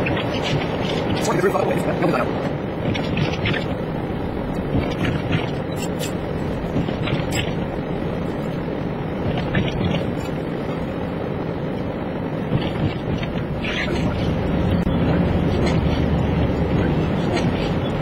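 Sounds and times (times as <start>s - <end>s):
vehicle rumble on snowy road: 0.0s - 18.0s
wind buffeting: 0.0s - 18.0s.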